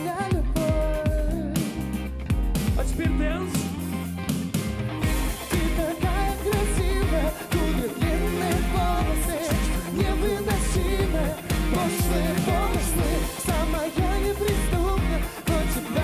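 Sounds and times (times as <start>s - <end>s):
man singing lead: 0.0s - 2.0s, 2.8s - 3.9s, 5.0s - 16.0s
bass guitar: 0.0s - 16.0s
electric guitar: 0.0s - 16.0s
steady drum beat: 0.0s - 16.0s.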